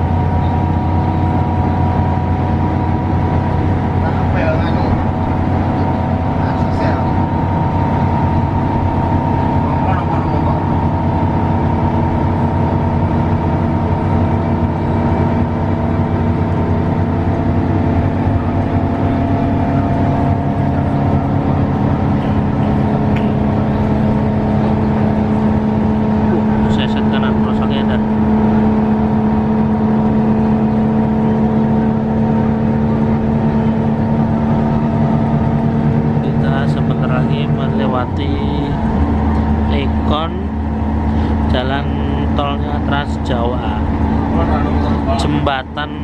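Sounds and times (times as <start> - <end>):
bus diesel engine running: 0.0 - 46.0
road noise: 0.0 - 46.0.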